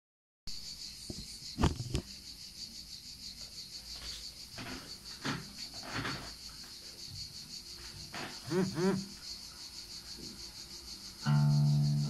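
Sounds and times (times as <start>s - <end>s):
cricket chirping: 0.5s - 12.0s.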